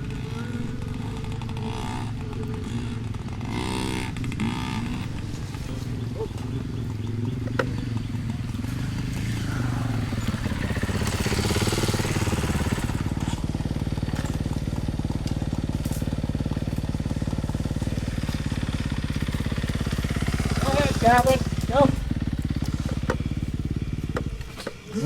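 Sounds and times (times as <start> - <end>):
dirt bike engines running: 0.0 - 25.0.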